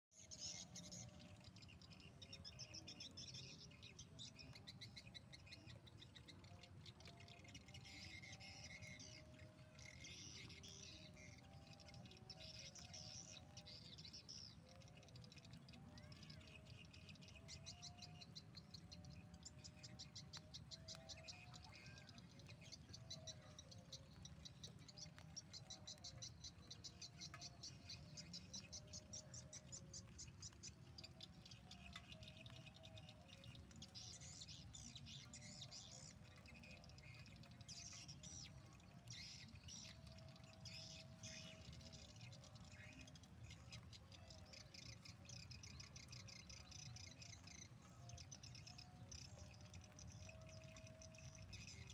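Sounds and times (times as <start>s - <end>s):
birds twittering: 0.2s - 51.9s.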